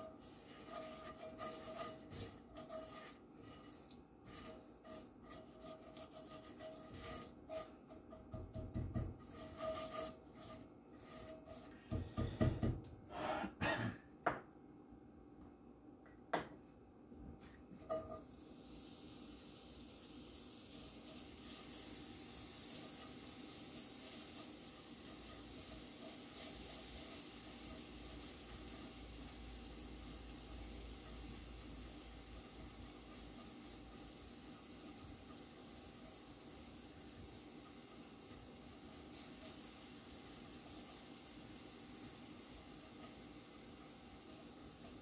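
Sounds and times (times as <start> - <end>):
garlic sizzling in hot oil: 0.0 - 11.7, 17.8 - 45.0
spatula scraping in skillet: 0.0 - 13.3, 17.4 - 45.0.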